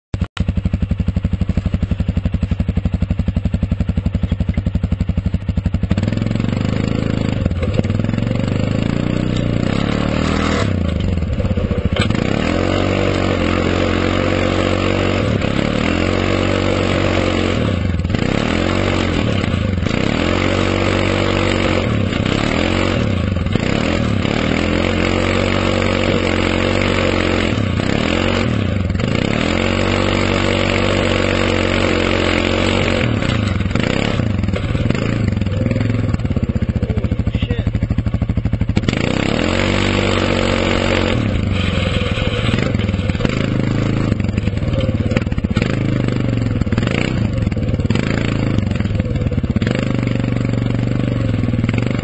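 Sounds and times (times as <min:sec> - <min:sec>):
atv engine idling and revving: 0:00.0 - 0:52.0.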